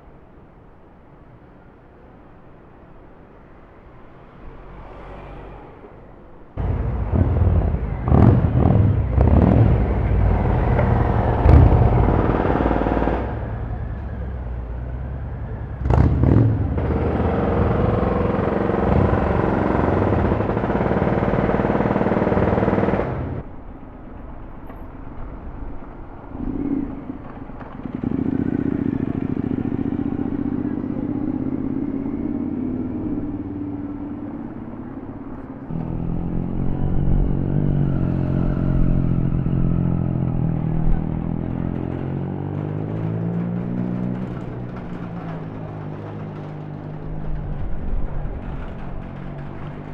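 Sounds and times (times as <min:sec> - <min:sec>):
motorcycle engine revving: 0:06.6 - 0:23.5, 0:26.4 - 0:49.9.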